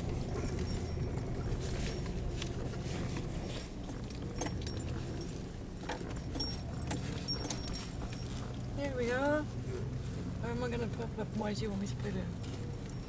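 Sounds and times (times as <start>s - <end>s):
car engine running low: 0.0s - 13.0s
loose things rattling in car: 0.0s - 13.0s.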